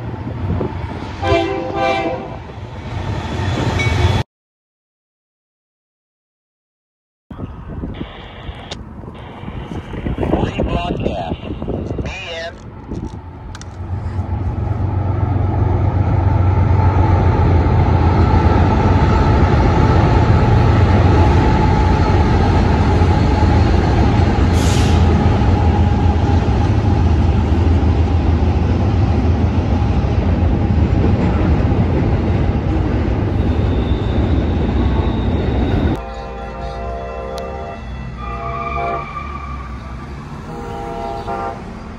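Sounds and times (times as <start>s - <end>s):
freight train rumbling over bridge: 0.0s - 4.2s, 8.8s - 41.9s.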